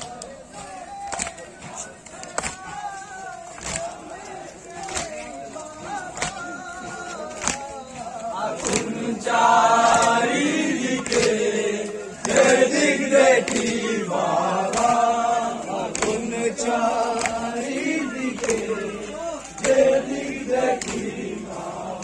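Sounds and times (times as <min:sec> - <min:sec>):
hands slapping chests: 0:00.0 - 0:22.0
men chanting a lament: 0:00.0 - 0:22.0.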